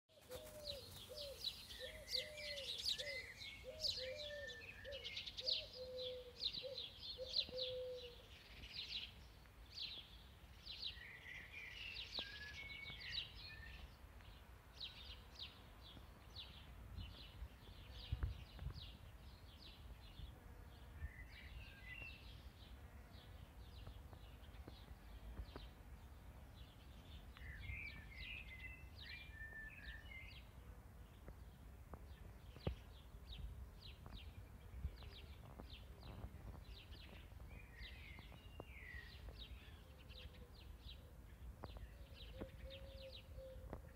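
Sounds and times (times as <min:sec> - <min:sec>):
birds singing and chirping: 0:00.1 - 0:43.9.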